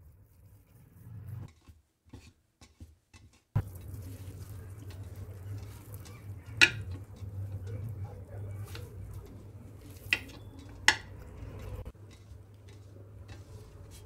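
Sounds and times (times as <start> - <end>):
wooden spoon stirring batter: 0.0 - 14.0.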